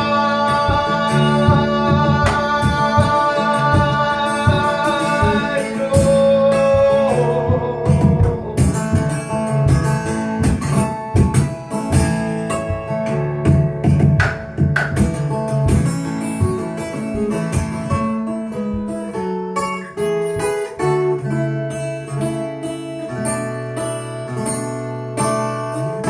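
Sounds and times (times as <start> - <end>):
fingerstyle acoustic guitar: 0.0 - 26.0.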